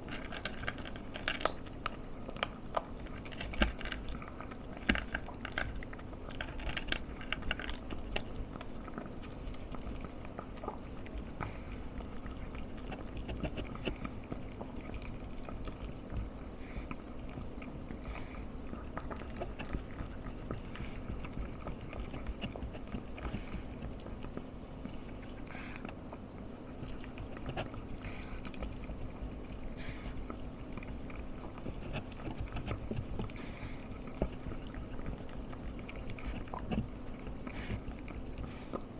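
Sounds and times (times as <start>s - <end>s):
dog chewing: 0.0s - 38.9s.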